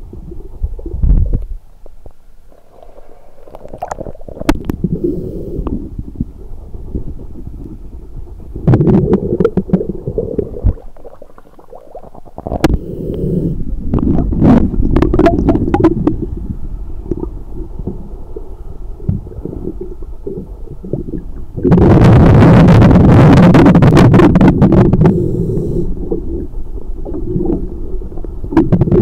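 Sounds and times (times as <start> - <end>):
muffled underwater water movement: 0.0 - 29.0.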